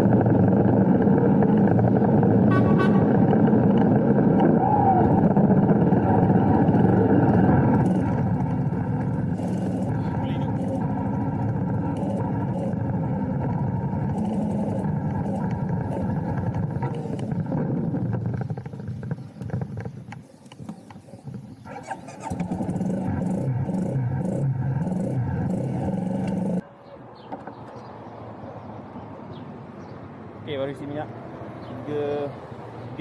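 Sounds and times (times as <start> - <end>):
motorcycle engine idling: 0.0 - 26.6.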